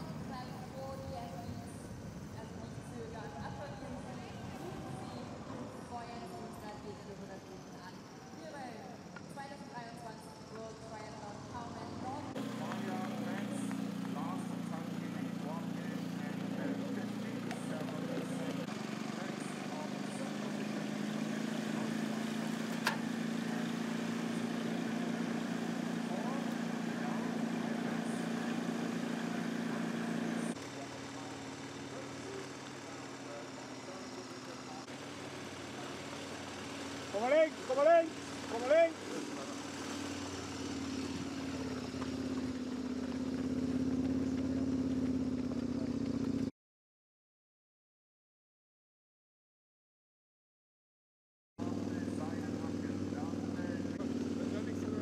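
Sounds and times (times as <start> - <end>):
motorbike engine cruising: 0.0 - 46.5, 51.6 - 55.0
road and wind noise: 0.0 - 46.5.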